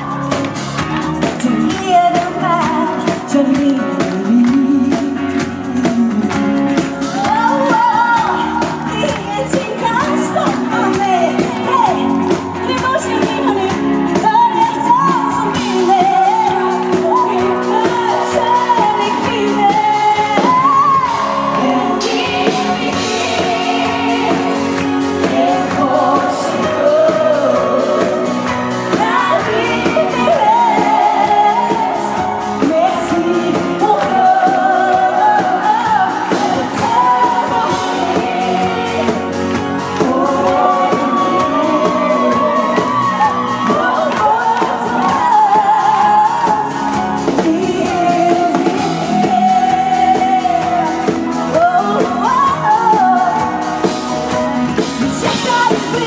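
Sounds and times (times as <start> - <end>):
loud pop backing music: 0.0 - 56.0
singer singing into microphone: 1.1 - 53.9.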